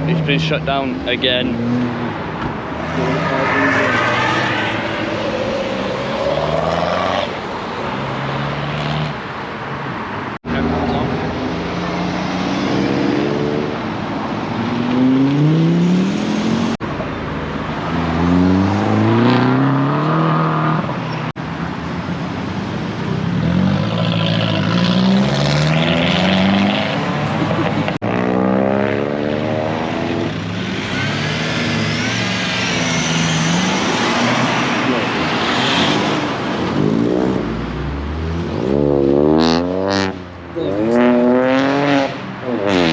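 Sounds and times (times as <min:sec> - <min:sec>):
car engines revving and accelerating: 0:00.0 - 0:42.9.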